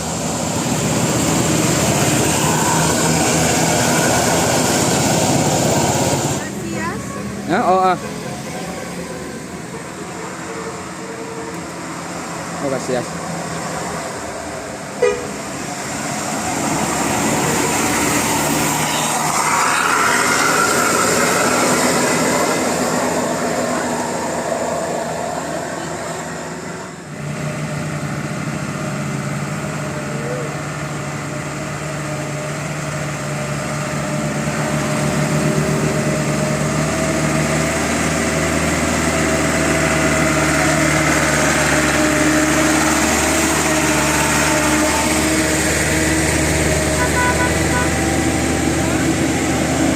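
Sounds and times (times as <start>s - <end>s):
bus engine running: 0.0s - 49.9s.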